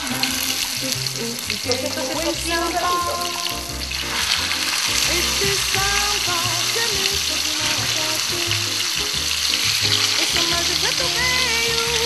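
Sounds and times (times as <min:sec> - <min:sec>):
chicken sizzling in hot fat: 0:00.0 - 0:12.0.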